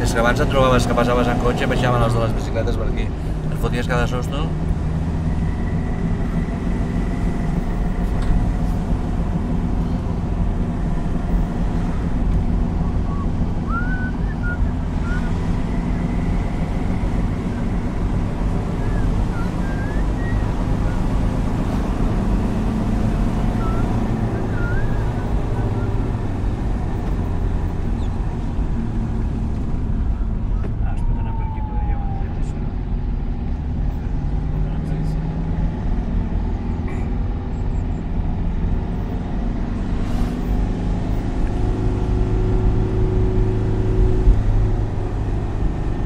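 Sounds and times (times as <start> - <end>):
car engine and tyre rumble: 0.0 - 46.0.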